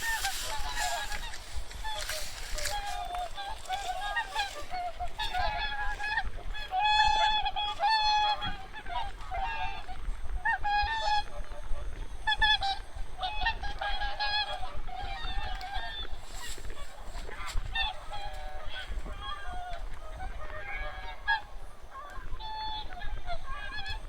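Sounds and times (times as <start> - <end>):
geese and swans calling: 0.0 - 24.0.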